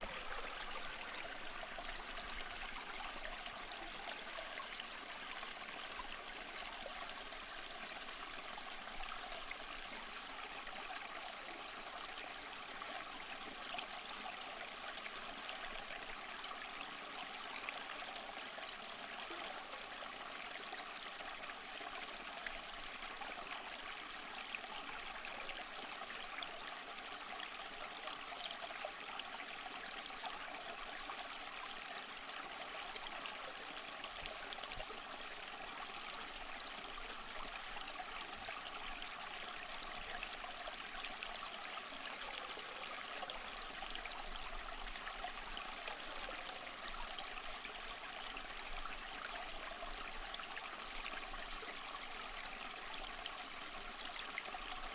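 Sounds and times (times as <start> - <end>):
stream trickling over stones: 0.0 - 54.9.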